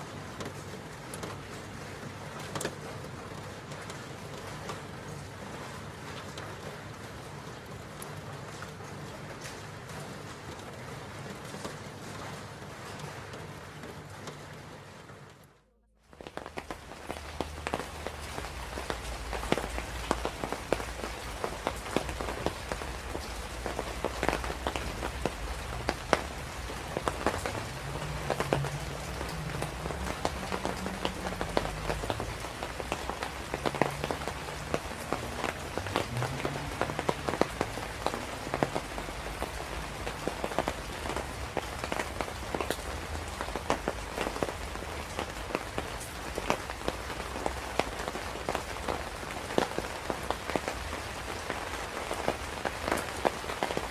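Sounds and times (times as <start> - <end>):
raindrops ticking on a surface: 0.0 - 53.9.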